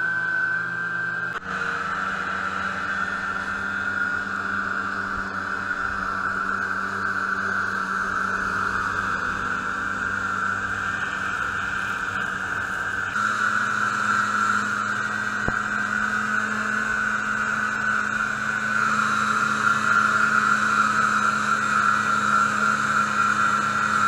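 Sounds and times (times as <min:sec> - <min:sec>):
snowmobile engine droning: 0:00.0 - 0:24.0.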